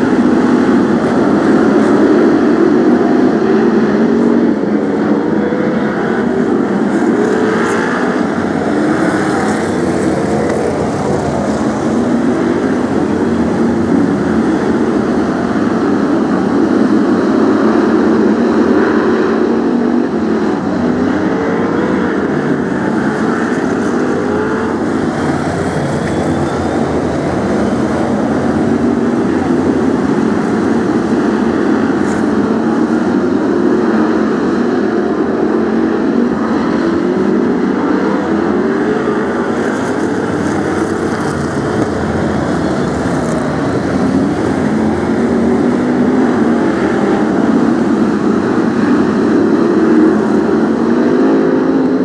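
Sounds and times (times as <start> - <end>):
stock car engines racing: 0.0 - 52.0.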